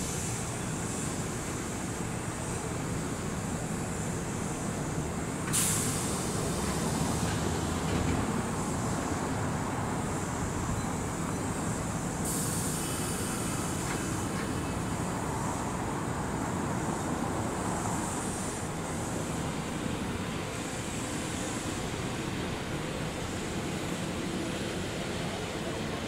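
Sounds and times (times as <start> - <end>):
high hiss: 0.0 - 26.0.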